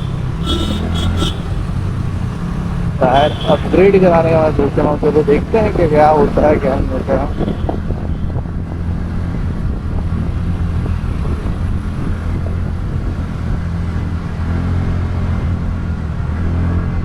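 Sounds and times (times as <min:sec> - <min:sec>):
scooter engine cruising: 0:00.0 - 0:17.0
wind and road noise: 0:00.0 - 0:17.0.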